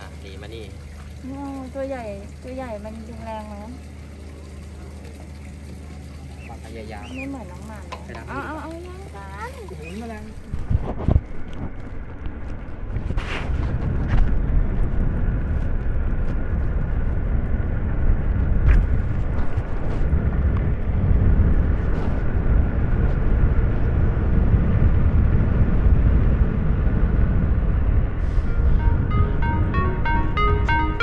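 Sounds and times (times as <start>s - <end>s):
vehicle and road rumble: 4.7s - 31.0s.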